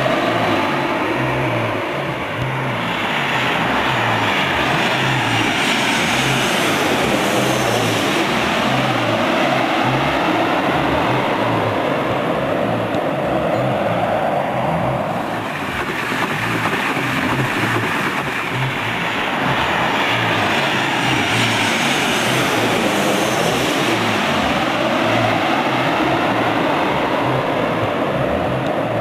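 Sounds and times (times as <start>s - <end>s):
jet airliner passing overhead: 0.0s - 29.0s.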